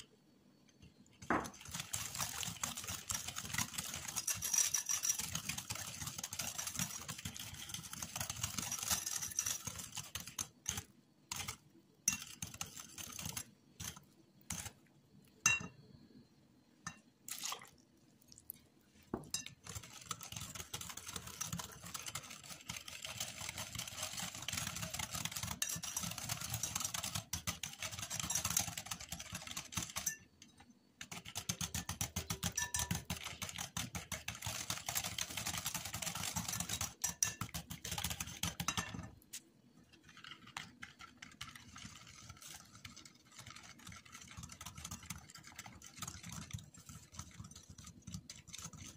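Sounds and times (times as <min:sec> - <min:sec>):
whisk rattling against bowl: 0:01.2 - 0:14.8, 0:19.2 - 0:39.2, 0:39.9 - 0:48.9.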